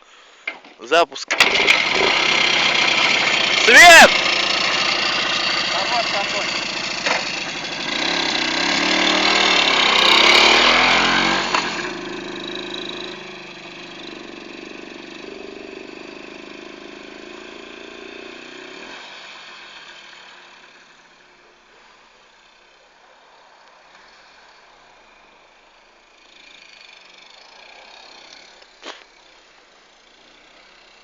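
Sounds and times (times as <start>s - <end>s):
motorcycle engine revving: 1.3s - 21.4s, 25.2s - 31.0s.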